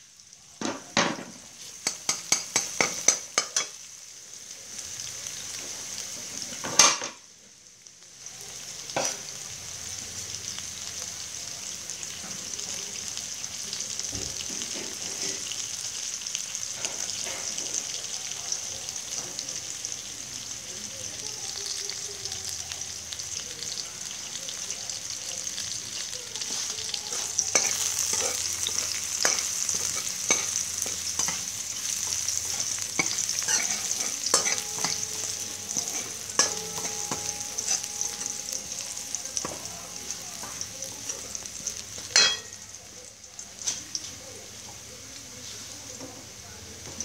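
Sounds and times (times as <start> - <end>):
garlic sizzling in hot oil: 0.0 - 47.0.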